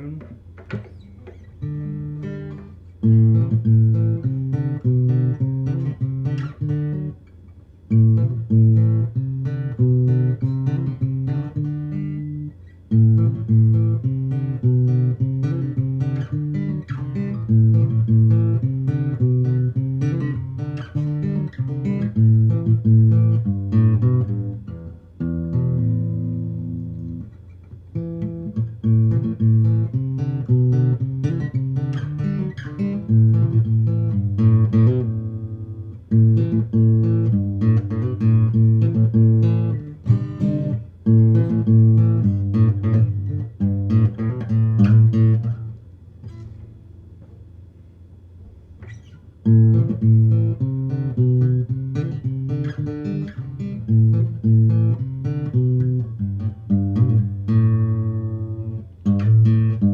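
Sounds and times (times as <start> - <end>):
acoustic guitar fingerstyle: 0.0 - 59.9.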